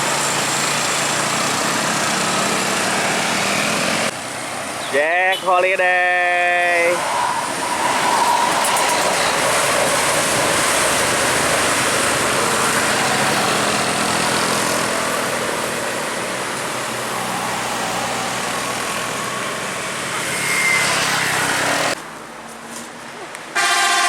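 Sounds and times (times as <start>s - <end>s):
bus driving past: 0.0s - 5.0s, 6.2s - 23.3s.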